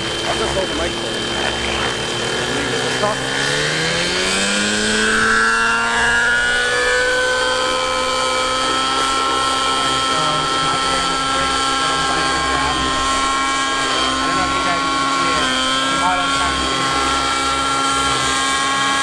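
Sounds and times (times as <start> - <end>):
model helicopter engine whine: 0.0 - 19.0.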